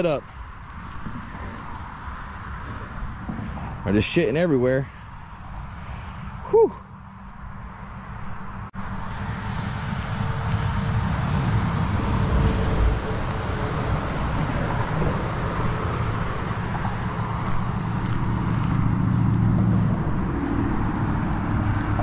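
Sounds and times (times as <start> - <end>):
highway traffic rumble: 0.0 - 22.0.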